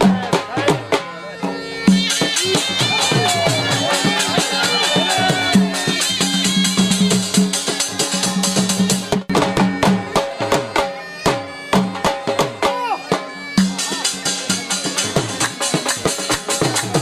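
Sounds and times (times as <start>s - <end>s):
reedy wind instrument melody: 1.0s - 17.0s.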